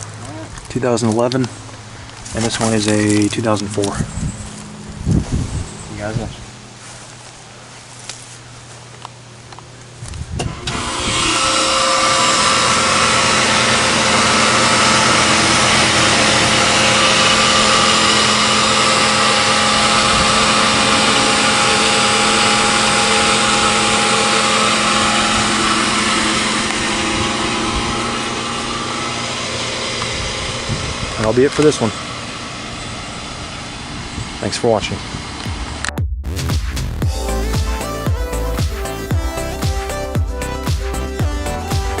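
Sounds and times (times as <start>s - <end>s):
air conditioner unit running: 0.0s - 35.8s, 37.0s - 42.0s.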